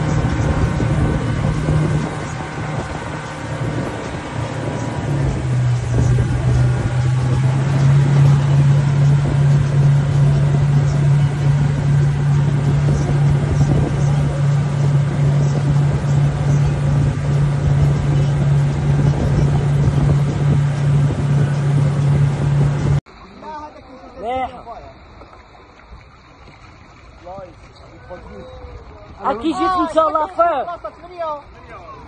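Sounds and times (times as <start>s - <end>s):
outboard engine droning: 0.0s - 32.0s
rush of churning wake: 0.0s - 32.0s.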